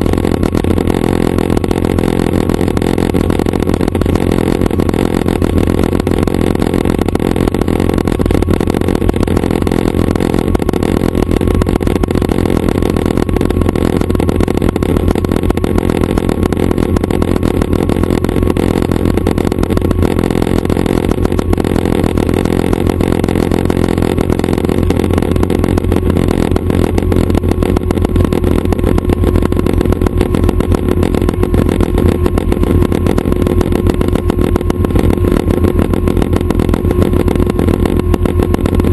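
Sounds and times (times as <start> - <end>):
helicopter engine and rotors: 0.0 - 38.9.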